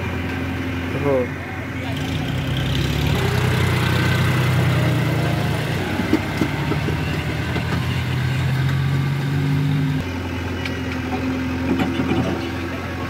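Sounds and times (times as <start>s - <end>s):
backhoe loader diesel engine humming: 0.0s - 13.0s
tractor diesel engine running: 0.0s - 13.0s.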